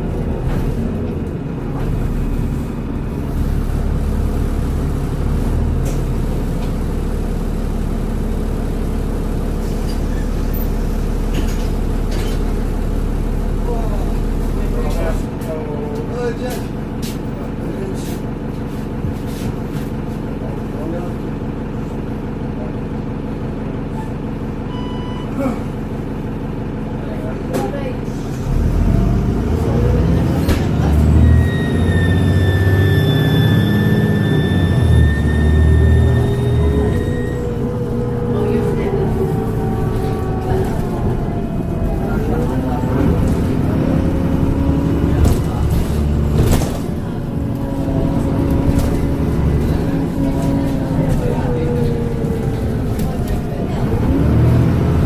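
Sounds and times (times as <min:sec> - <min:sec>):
bus engine low drone: 0:00.0 - 0:55.0.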